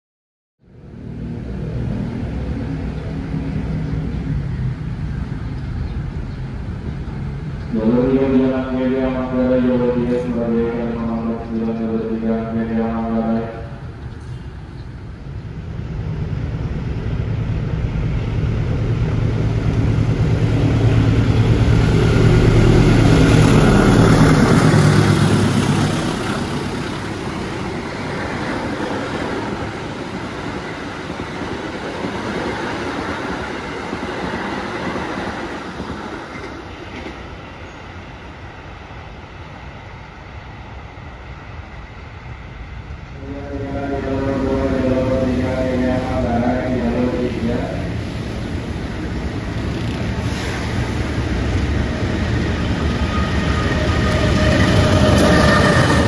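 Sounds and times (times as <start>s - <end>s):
diesel locomotive engine drone: 0.6s - 56.0s
train carriages rumbling past: 0.7s - 56.0s.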